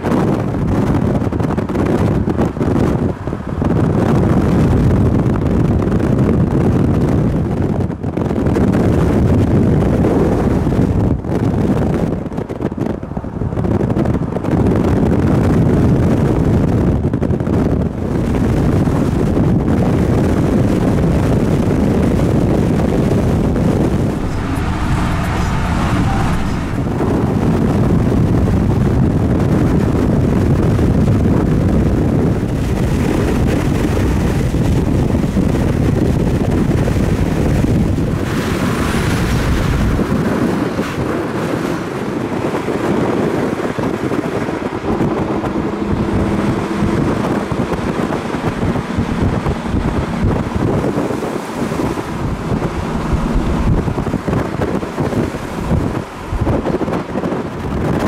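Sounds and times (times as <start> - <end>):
car road noise at speed: 0.0 - 58.0
wind buffeting on microphone: 0.0 - 58.0.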